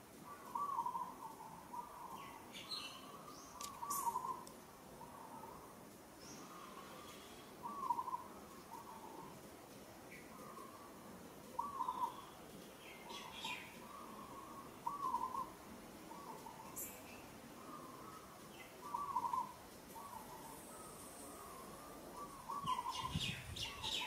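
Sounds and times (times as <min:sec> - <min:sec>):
bird cooing: 0:00.2 - 0:05.7, 0:06.3 - 0:09.4, 0:10.1 - 0:24.0.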